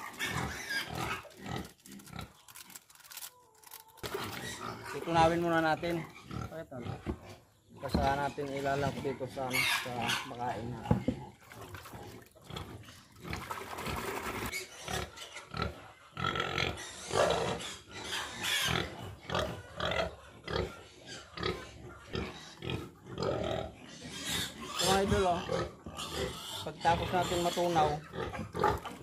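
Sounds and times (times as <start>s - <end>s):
pigs grunting and squealing: 0.0s - 2.7s, 4.0s - 29.0s.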